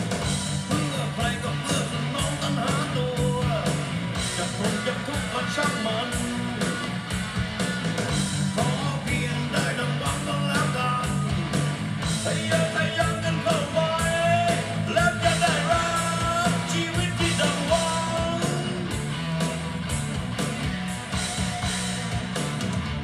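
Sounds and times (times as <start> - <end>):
rock song on vinyl record: 0.0 - 23.0.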